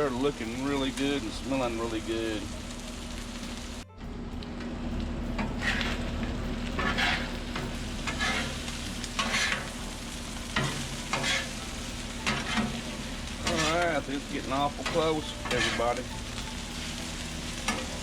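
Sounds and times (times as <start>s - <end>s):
chicken sizzling on griddle: 0.0s - 18.0s.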